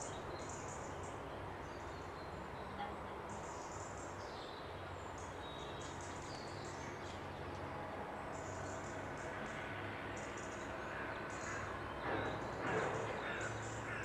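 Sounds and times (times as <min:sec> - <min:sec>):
small songbirds twittering: 0:00.0 - 0:14.0.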